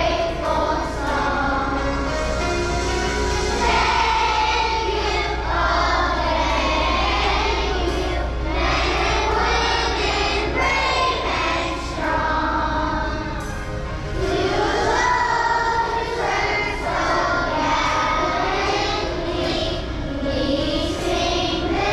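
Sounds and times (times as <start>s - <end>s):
children's choir singing: 0.0s - 21.9s
steady low hum: 0.0s - 21.9s.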